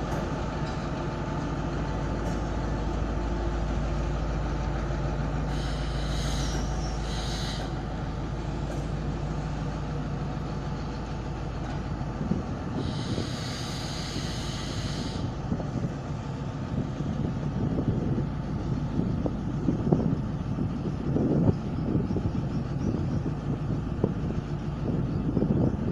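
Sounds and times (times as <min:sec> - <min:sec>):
diesel train engine droning: 0:00.0 - 0:25.9.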